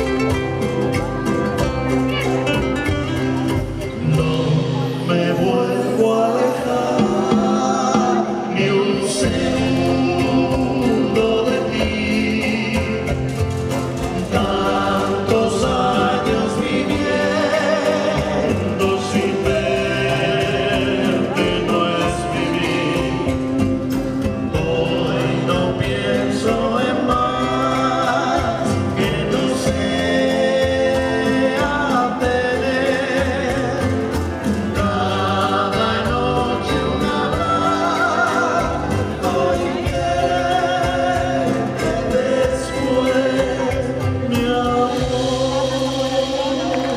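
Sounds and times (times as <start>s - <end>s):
acoustic guitars: 0.0s - 46.9s
singing voices: 0.0s - 46.9s
upright double bass: 0.0s - 46.9s.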